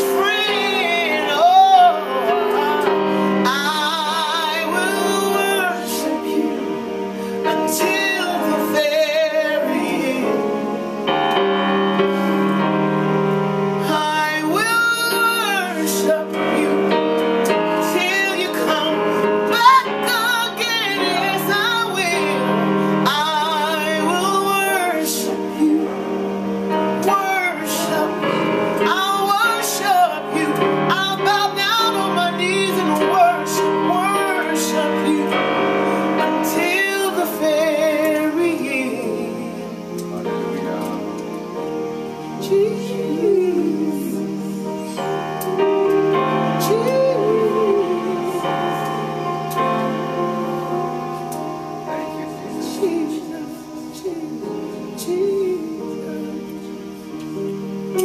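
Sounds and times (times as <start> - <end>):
woman singing gospel song: 0.0 - 10.9, 13.8 - 40.8, 42.1 - 45.4, 46.1 - 57.3
sustained keyboard chords: 0.0 - 58.0.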